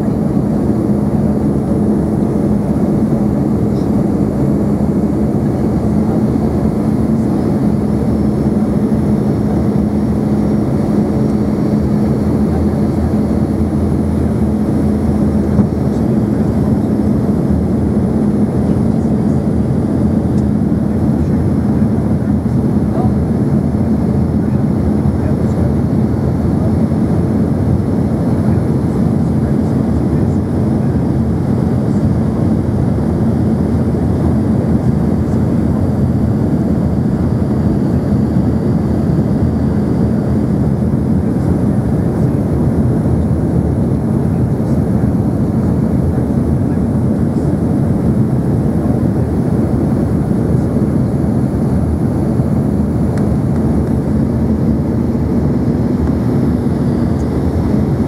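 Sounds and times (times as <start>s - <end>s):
low hum: 0.0s - 28.6s, 29.4s - 58.0s
jet cabin engine rumble: 0.0s - 58.0s.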